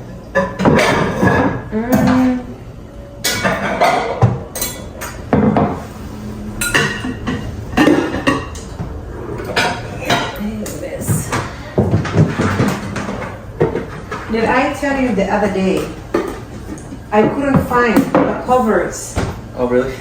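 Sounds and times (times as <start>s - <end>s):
dishes and utensils clinking: 0.3s - 2.4s, 3.2s - 18.8s.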